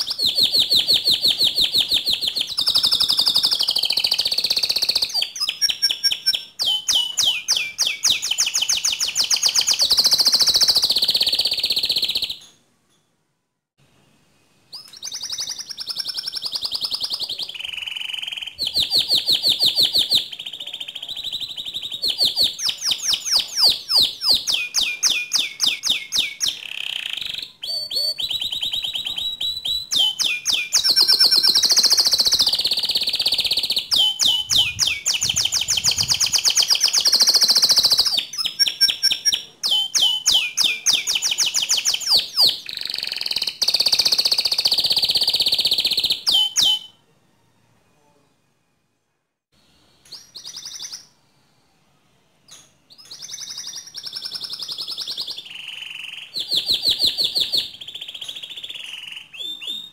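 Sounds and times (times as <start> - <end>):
canary singing trills: 0.0 - 12.6, 14.7 - 47.0, 50.0 - 51.2, 52.5 - 59.9.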